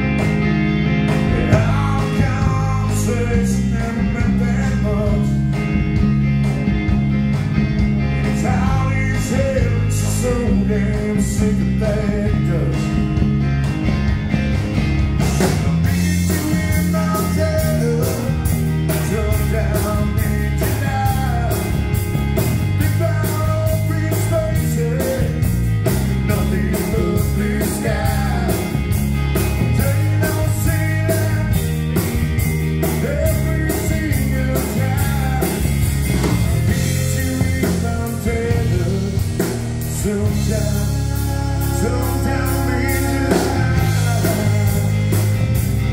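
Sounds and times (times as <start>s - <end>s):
drum kit: 0.0s - 45.9s
electric guitars: 0.0s - 45.9s
person singing lead vocal: 1.2s - 5.6s, 8.2s - 13.2s, 15.4s - 31.8s, 32.8s - 45.4s.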